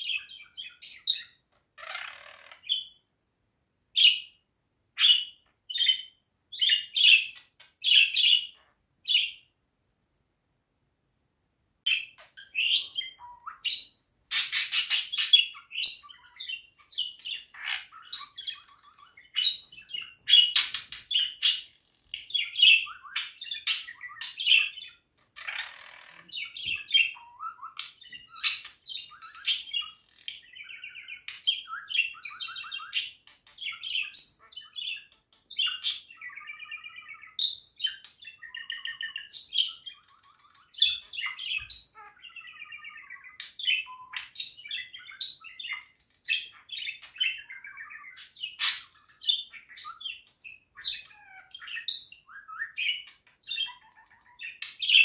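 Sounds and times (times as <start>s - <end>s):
budgerigar warbling and chattering: 0.0s - 3.0s, 11.9s - 55.0s.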